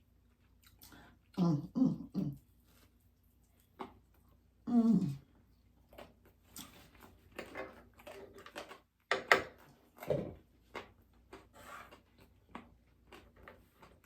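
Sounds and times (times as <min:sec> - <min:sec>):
crunching and chewing crisp food: 0:00.0 - 0:01.4, 0:02.4 - 0:14.0.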